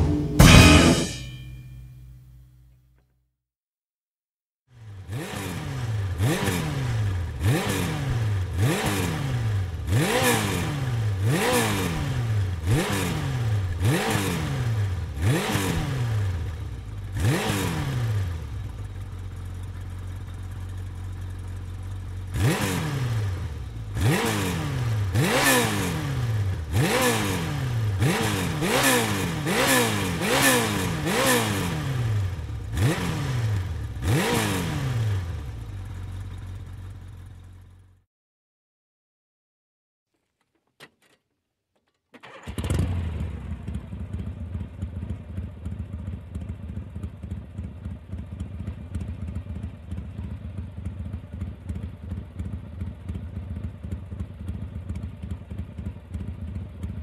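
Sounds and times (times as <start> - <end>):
motorcycle engine revving: 0.0 - 1.6, 4.7 - 38.0, 42.3 - 57.0.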